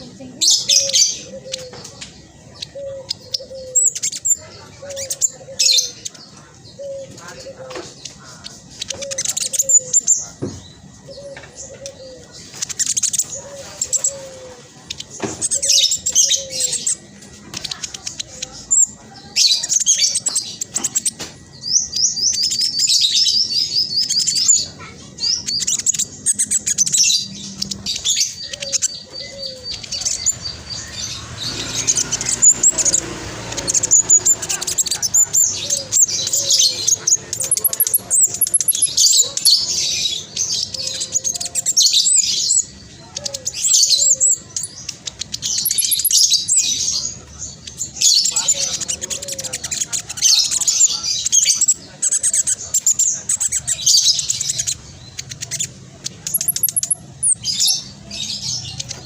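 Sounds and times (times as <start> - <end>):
bird chattering song: 0.0 - 59.0.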